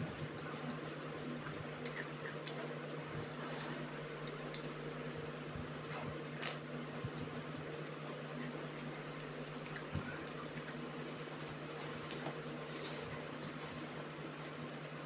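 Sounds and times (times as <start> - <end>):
person chewing wetly: 0.0 - 12.3
steady low hum: 0.0 - 15.0.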